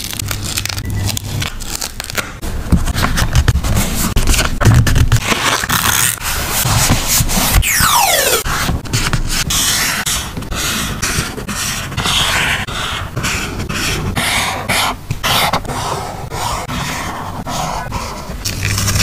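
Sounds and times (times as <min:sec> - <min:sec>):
paper rustling and scraping: 0:00.0 - 0:07.8, 0:08.4 - 0:19.0.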